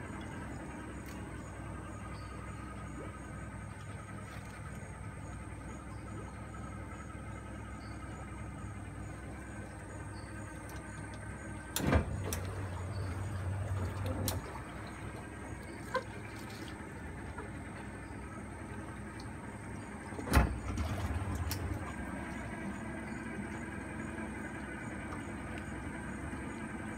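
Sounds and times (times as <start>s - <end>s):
boat motor humming: 0.0s - 26.9s.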